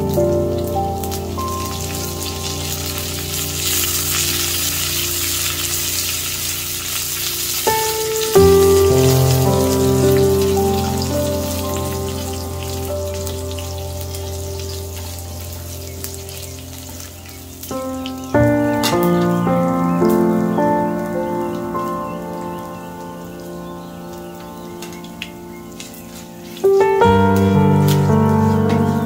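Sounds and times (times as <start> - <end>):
hot oil sizzling and spattering: 0.0 - 29.0
instrumental background music: 0.0 - 29.0.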